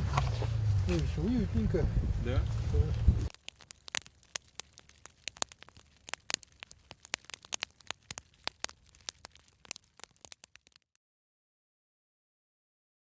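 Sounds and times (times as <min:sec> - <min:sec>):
fireplace fire crackling: 0:00.0 - 0:11.0.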